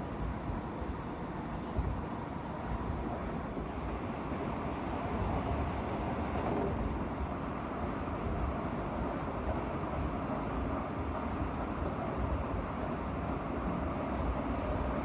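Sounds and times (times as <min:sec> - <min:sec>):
moving train rumbling: 0:00.0 - 0:15.0.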